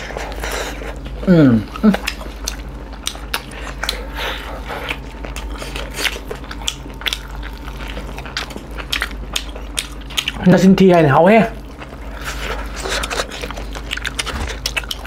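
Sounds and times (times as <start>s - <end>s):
people chewing wetly: 0.0s - 10.5s, 11.6s - 15.0s
faint low hum: 0.0s - 15.0s.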